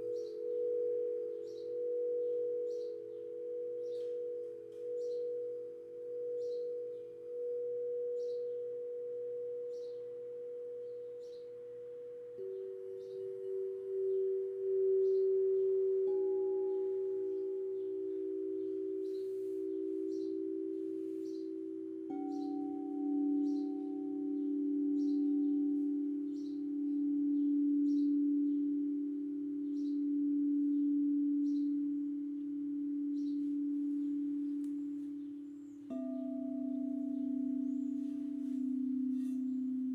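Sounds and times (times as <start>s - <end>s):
bird chirping: 0.0s - 39.9s
singing bowls ringing: 0.0s - 39.9s.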